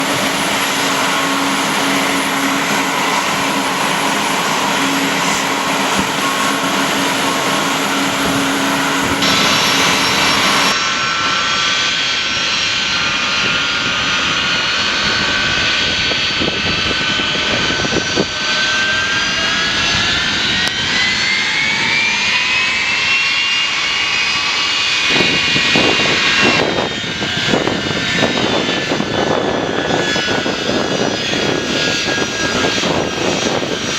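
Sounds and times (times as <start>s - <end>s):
jet engines roaring and whining: 0.0s - 33.9s.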